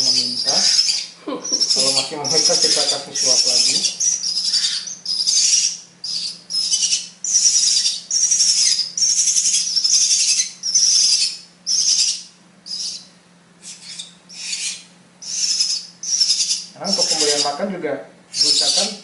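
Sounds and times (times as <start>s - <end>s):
nestlings begging calls: 0.0s - 17.7s, 18.3s - 19.0s.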